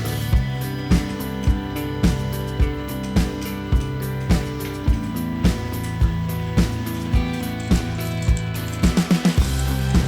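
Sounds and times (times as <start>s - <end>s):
steady drum beat: 0.0s - 10.0s
sustained guitar-like chords: 0.0s - 10.0s.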